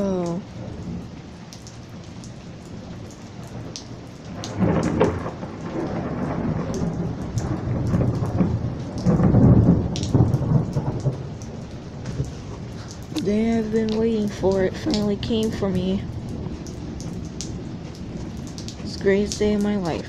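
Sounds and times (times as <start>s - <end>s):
rain falling: 0.0s - 20.0s
thunder rumbling: 0.0s - 20.0s.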